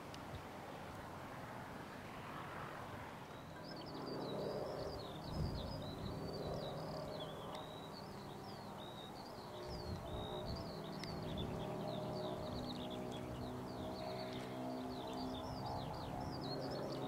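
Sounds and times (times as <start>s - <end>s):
low background drone: 0.0s - 17.0s.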